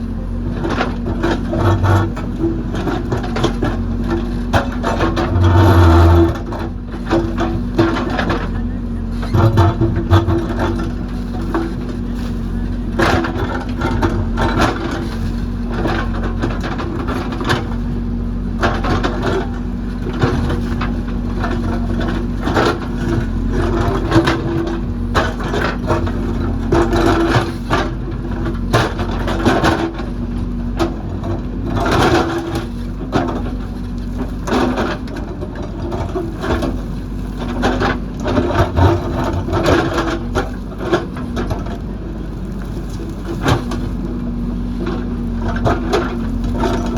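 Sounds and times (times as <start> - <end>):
bucket crunching rock and soil: 0.0 - 46.9
diesel engine running under load: 0.0 - 46.9.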